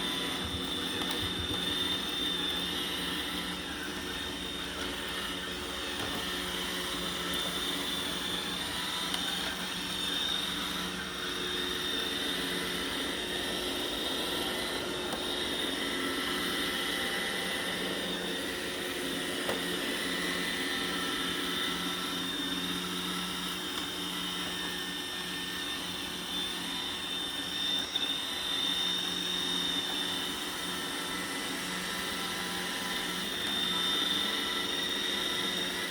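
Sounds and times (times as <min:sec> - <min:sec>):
robot vacuum running: 0:00.0 - 0:35.9.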